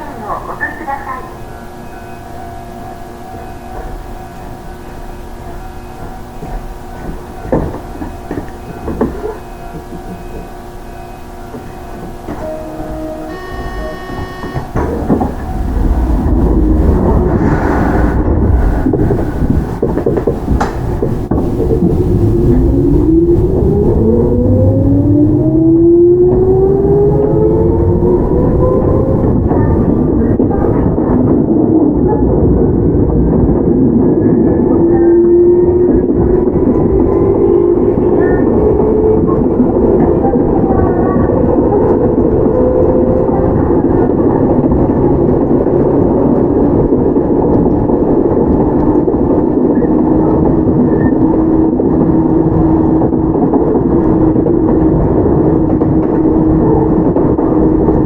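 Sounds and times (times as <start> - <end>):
rail and wheel rumble: 0.0 - 58.0.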